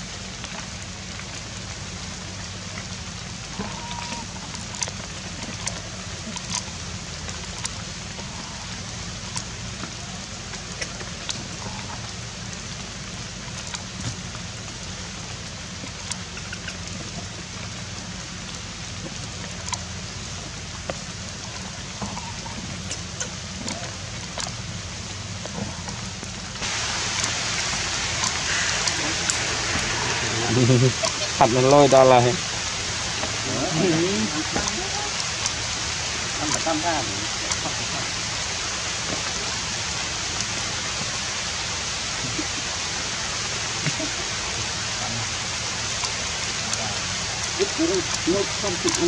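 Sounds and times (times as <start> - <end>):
low steady hum: 0.0 - 49.0
rain hiss: 0.0 - 49.0.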